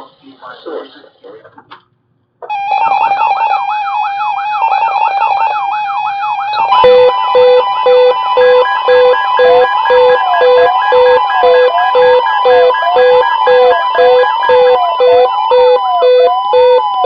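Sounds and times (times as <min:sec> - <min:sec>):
beeping alarm: 0:02.5 - 0:17.0
rising and falling warble: 0:02.5 - 0:17.0
steady alarm tone: 0:02.5 - 0:17.0.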